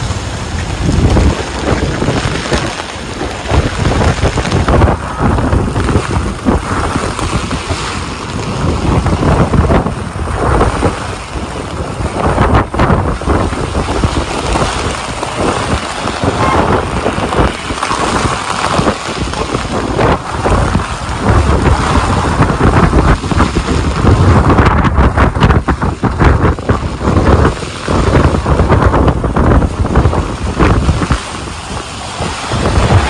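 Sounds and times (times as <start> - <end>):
passing traffic: 0.0 - 24.5, 27.8 - 33.0
heavy rain pouring: 0.0 - 33.0
wind gusting on microphone: 0.0 - 33.0.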